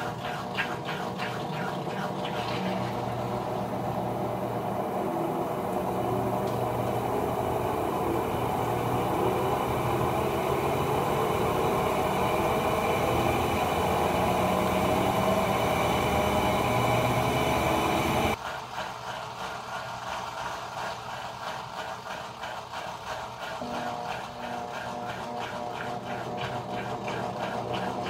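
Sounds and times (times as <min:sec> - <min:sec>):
faint machine sound: 0:00.0 - 0:28.0
washing machine motor hum: 0:00.0 - 0:28.0.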